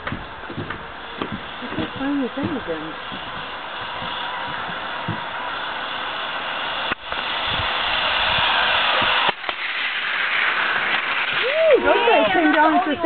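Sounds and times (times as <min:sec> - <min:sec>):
air rushing past: 0:00.0 - 0:13.0
zip line trolley on cable: 0:00.0 - 0:13.0.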